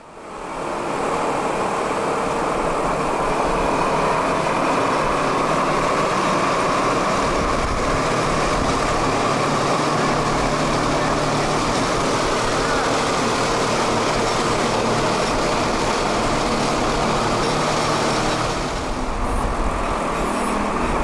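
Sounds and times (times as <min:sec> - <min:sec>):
loud heavy vehicle engine: 0:00.0 - 0:21.0
tires driving on gravel: 0:00.5 - 0:21.0.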